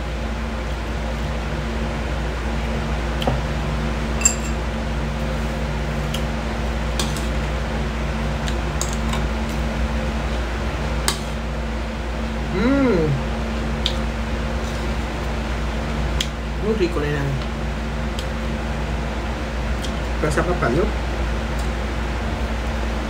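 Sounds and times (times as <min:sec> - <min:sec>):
appliance humming: 0:00.0 - 0:23.0.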